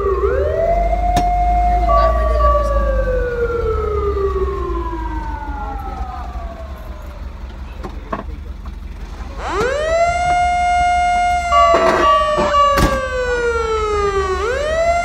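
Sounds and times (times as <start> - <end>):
fire truck siren wail: 0.0 - 8.0, 8.6 - 15.0
truck engine rumble: 0.0 - 15.0.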